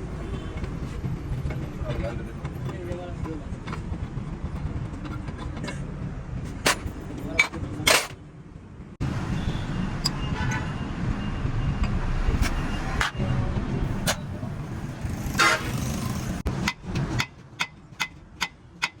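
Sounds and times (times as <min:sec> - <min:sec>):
low rumble of road vehicles: 0:00.0 - 0:19.0.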